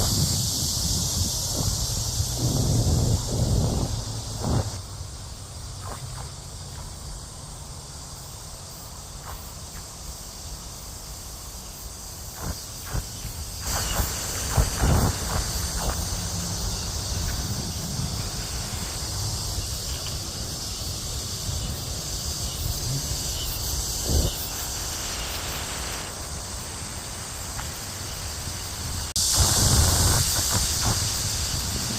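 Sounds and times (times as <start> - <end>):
wind rumble on microphone: 0.0 - 7.2, 12.2 - 31.9
cicadas buzzing: 0.0 - 31.9.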